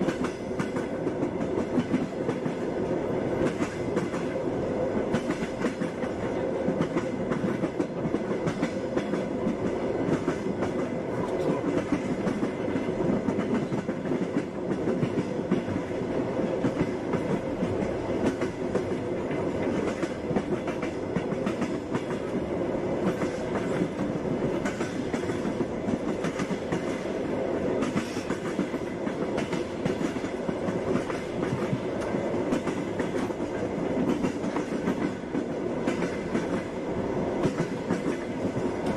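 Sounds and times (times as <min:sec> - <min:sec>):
train wheels clacking over rail joints: 0:00.0 - 0:04.4, 0:05.0 - 0:38.9.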